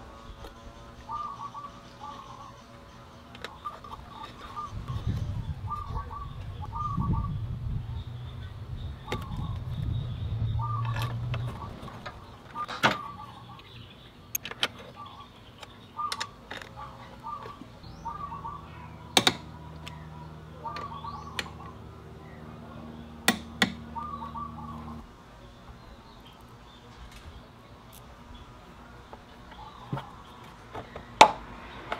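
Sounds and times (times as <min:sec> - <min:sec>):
bird chirping: 0:00.0 - 0:31.9
low steady hum: 0:00.0 - 0:31.9.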